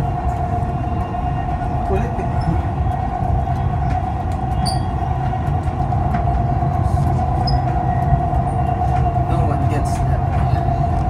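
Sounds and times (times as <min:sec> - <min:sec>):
constant whine: 0:00.0 - 0:11.0
train rumble: 0:00.0 - 0:11.0.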